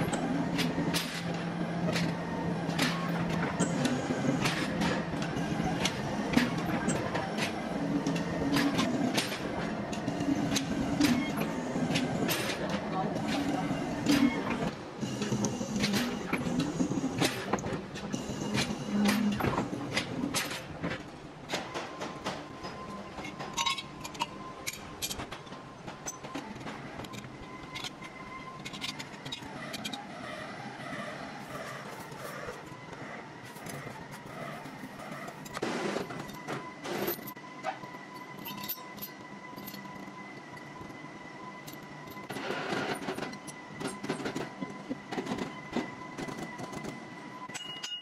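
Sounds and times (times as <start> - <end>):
workshop machinery humming: 0.0 - 48.0.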